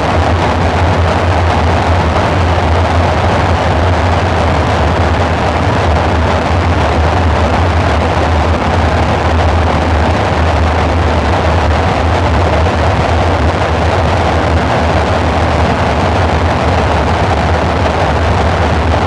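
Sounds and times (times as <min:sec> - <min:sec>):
dark ambient synthesizer drone: 0:00.0 - 0:19.0.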